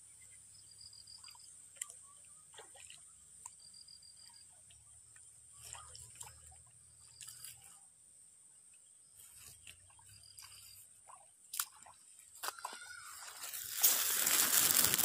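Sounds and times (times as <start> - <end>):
splashes and squelches in mud: 1.0 - 7.8, 9.1 - 15.0.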